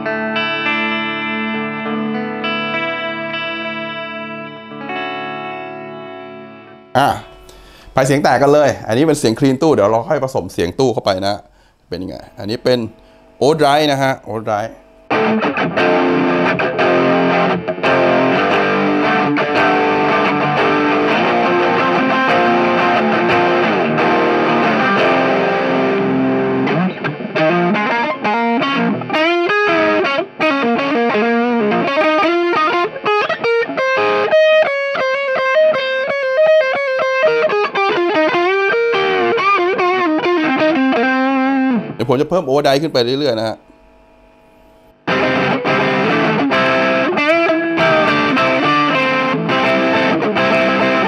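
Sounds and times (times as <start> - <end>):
overdriven electric guitar: 0.0 - 8.7, 11.5 - 51.0.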